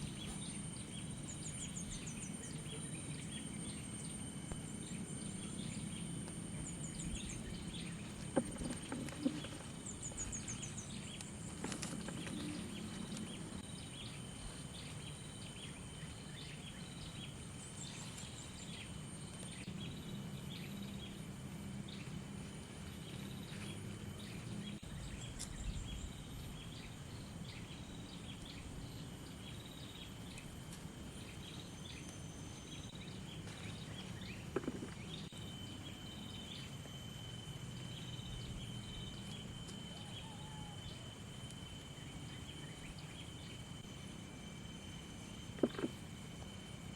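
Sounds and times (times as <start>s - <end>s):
birds chirping: 0.0s - 46.9s
high insect drone: 0.0s - 46.9s.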